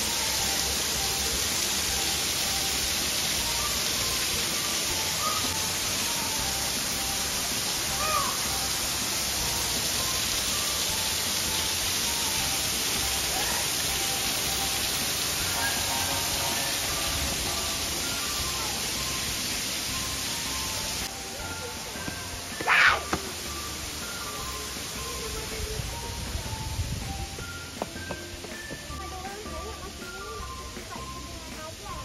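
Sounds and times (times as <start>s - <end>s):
steady rushing hiss: 0.0s - 32.0s.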